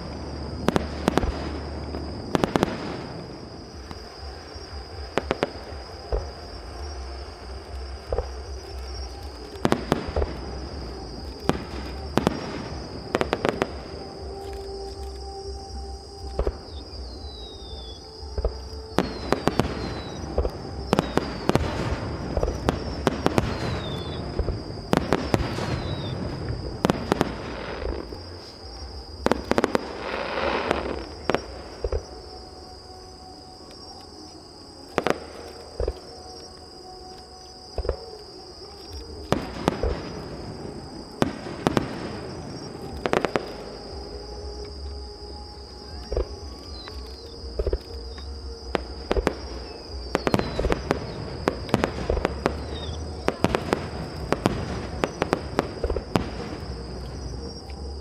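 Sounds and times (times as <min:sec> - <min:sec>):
fireworks bursting: 0:00.0 - 0:15.2, 0:18.3 - 0:32.2, 0:38.8 - 0:44.8, 0:46.0 - 0:58.0
crackling hiss: 0:00.0 - 0:58.0
falling whistles: 0:00.7 - 0:58.0.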